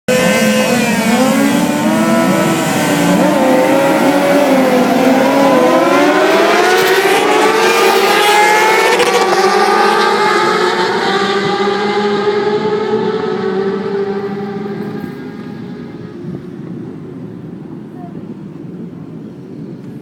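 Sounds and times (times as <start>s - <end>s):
motorcycle engines revving: 0.1s - 17.9s.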